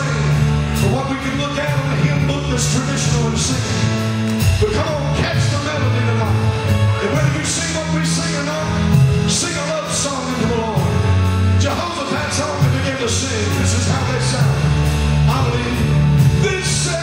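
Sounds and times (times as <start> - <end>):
held bass notes: 0.0 - 17.0.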